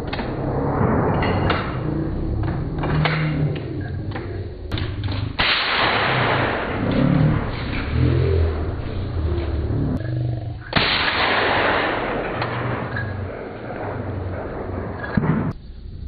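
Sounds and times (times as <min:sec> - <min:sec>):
gunshots: 0:00.0 - 0:09.8, 0:10.7 - 0:15.6
rushing noise: 0:00.0 - 0:15.6.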